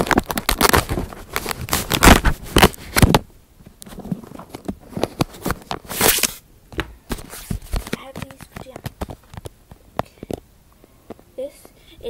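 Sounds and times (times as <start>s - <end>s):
handling noise on a tablet case: 0.0s - 10.5s.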